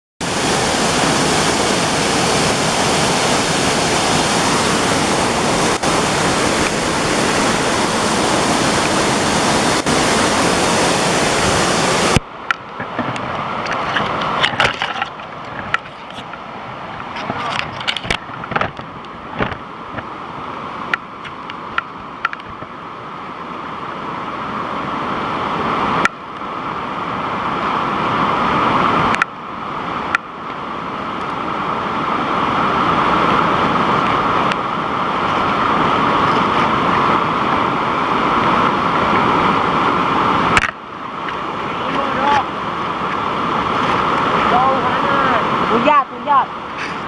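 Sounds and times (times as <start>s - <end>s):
waterfall rushing: 0.2s - 47.0s.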